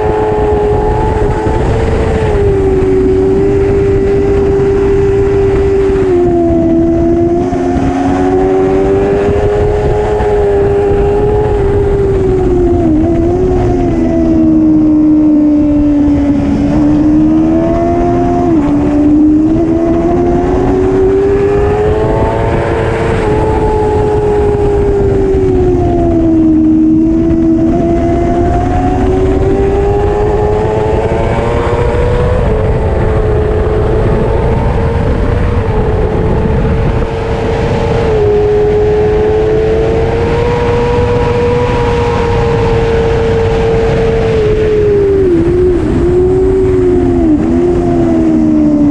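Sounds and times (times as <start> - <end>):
low rushing noise: 0.0 - 48.9
racing motorcycle engine revving: 0.0 - 48.9.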